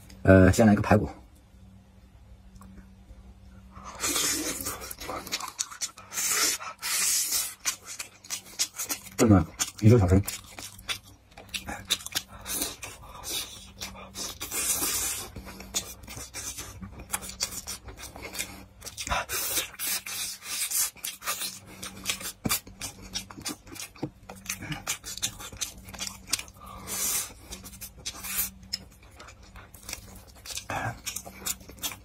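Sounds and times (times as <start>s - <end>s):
faint low hum: 0.0s - 32.0s
chewing and sucking meat: 3.8s - 32.0s.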